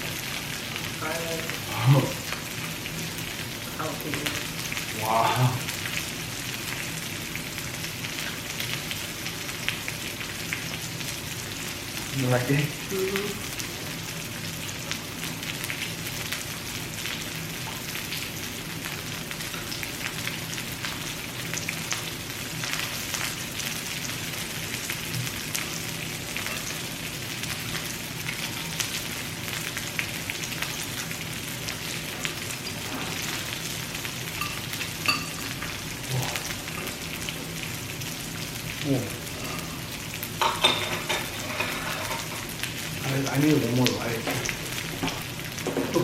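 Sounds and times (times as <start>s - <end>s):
pork sizzling on a grill: 0.0s - 46.0s.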